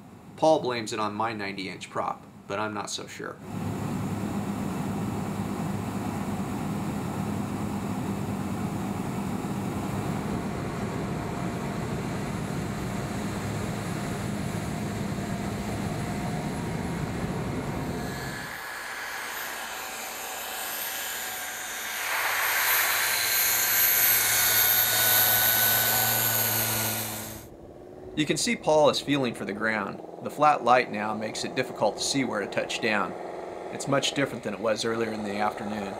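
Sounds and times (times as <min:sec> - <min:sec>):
aircraft engine drone: 0:03.4 - 0:35.9
high engine whine: 0:03.4 - 0:35.9.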